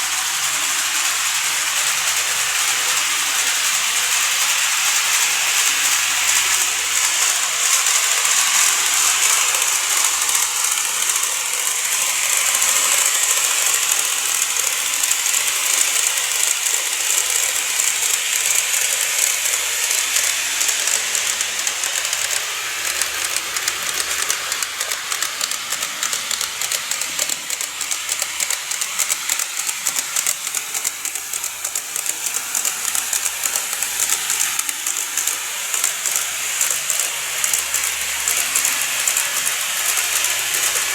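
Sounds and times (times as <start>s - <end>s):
model train whirring: 0.0s - 40.9s
wheels clicking over rail joints: 0.0s - 40.9s.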